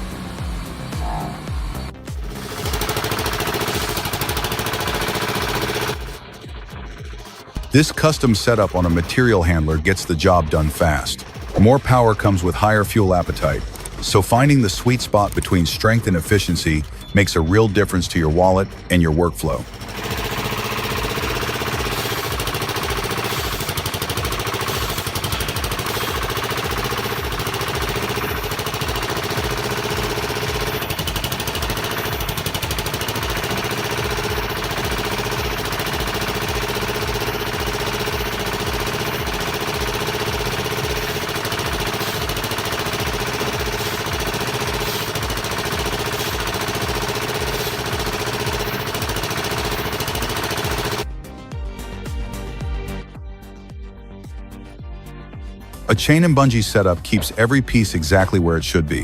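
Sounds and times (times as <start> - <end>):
machine humming with fast pulsing: 0.0 - 18.9, 19.5 - 51.1.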